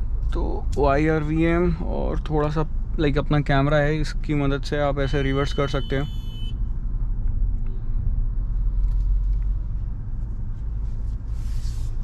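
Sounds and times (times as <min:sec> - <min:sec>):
car cabin engine and road rumble: 0:00.0 - 0:12.0.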